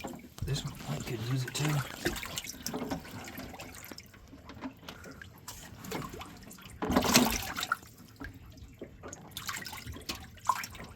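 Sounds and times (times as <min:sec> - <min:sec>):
water splashing and dripping: 0:00.0 - 0:10.9.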